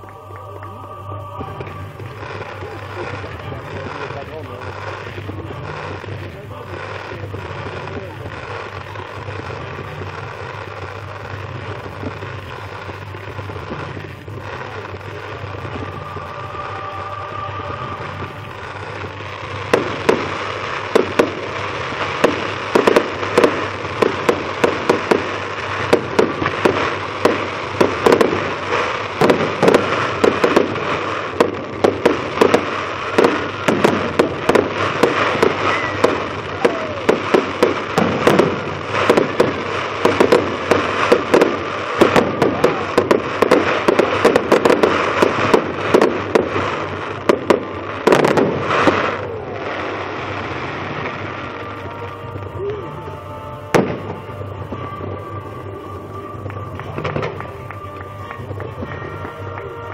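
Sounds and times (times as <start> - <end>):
fireworks bangs: 0.0 - 59.9
steady hiss: 0.0 - 59.9.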